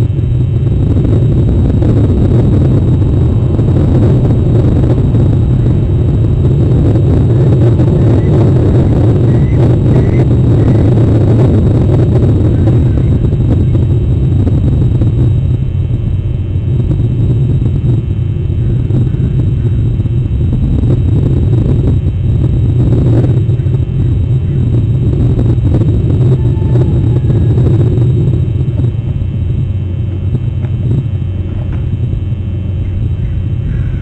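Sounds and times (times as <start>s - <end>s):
loud low rumble: 0.0s - 34.0s.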